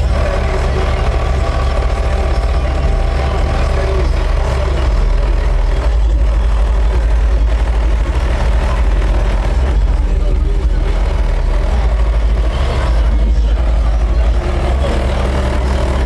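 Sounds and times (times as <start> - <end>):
car stereo playing deep bass: 0.0 - 16.0.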